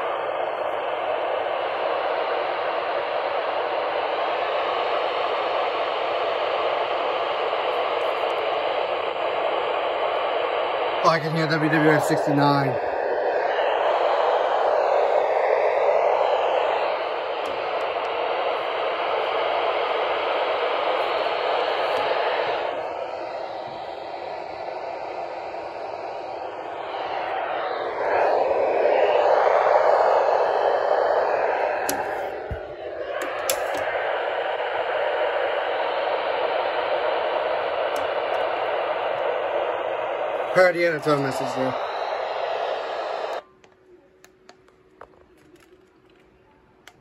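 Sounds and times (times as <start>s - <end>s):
radio static hissing: 0.0s - 43.5s.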